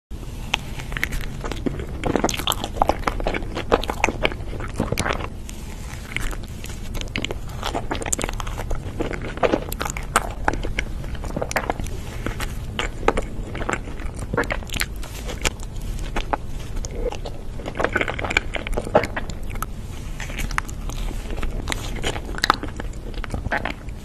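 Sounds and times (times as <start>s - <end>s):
steady low hum: 0.1s - 24.0s
person chewing soft food: 0.2s - 24.0s.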